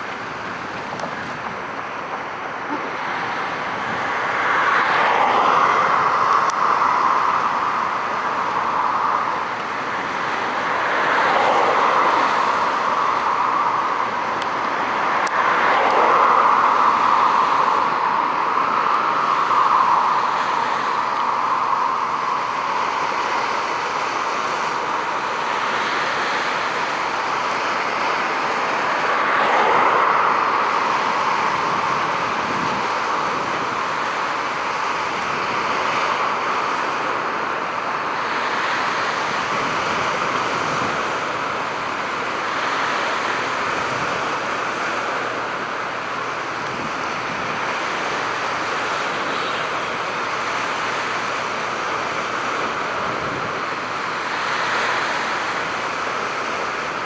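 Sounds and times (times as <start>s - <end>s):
distant road traffic: 0.0s - 57.0s.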